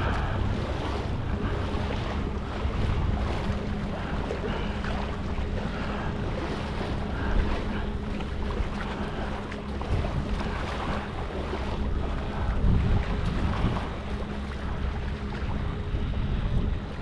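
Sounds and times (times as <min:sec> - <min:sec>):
low steady hum: 0:00.0 - 0:17.0
water splashing around kayak: 0:00.0 - 0:17.0
wind buffeting microphone: 0:00.0 - 0:17.0.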